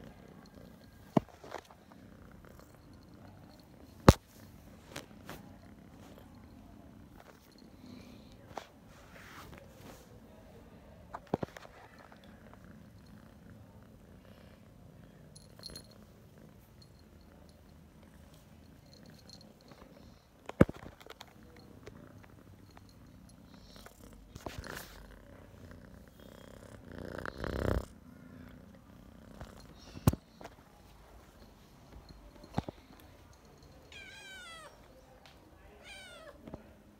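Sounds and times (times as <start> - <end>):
cat purring: 0.0 - 34.4.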